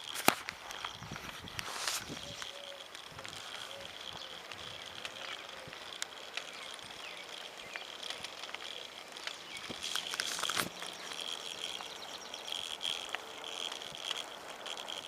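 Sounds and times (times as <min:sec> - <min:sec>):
bicycle rolling: 0:00.0 - 0:15.0
crickets buzzing: 0:00.0 - 0:15.0
light clicks and ticks: 0:00.0 - 0:15.0.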